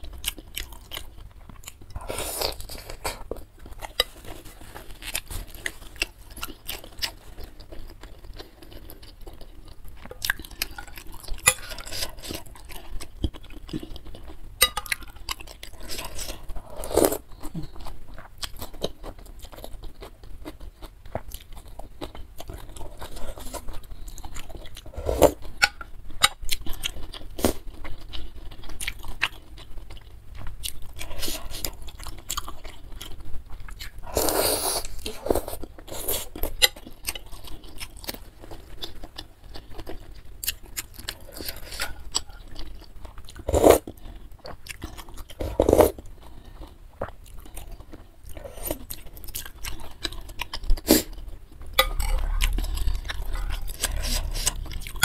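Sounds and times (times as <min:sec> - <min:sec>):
chewing and biting with wet smacks: 0:05.1 - 0:24.8, 0:25.4 - 0:34.0, 0:34.8 - 0:55.0.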